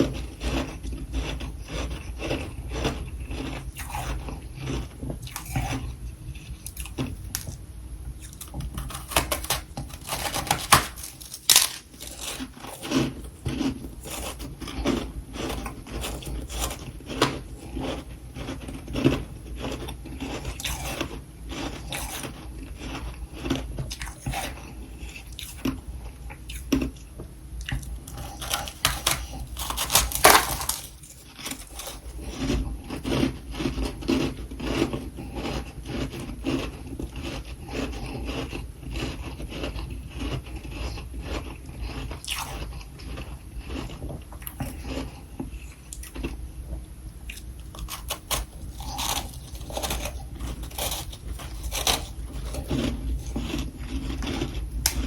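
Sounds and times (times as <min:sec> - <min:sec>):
crunching and scraping: 0:00.0 - 0:07.6, 0:08.2 - 0:25.8, 0:27.6 - 0:46.4, 0:47.7 - 0:55.0.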